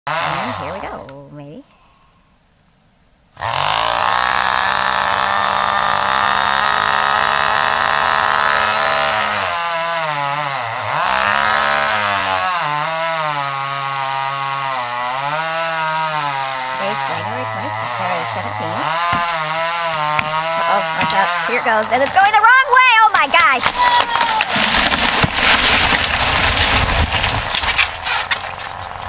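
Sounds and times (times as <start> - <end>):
chainsaw cutting wood: 0.1 - 1.1, 3.4 - 29.0.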